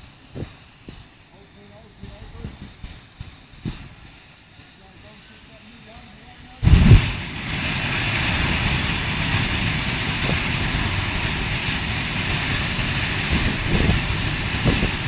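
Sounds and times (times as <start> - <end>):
gas fire rushing and rumbling: 0.0 - 15.0
hose water spray hissing: 0.0 - 15.0.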